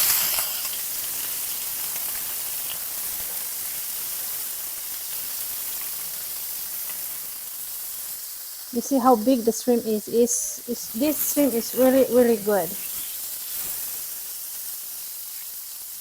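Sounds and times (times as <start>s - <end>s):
shrimp sizzling in oil: 0.0s - 16.0s.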